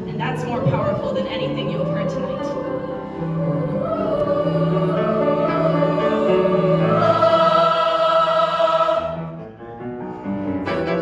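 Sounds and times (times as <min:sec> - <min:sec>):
choir singing held chords: 0:00.4 - 0:09.6.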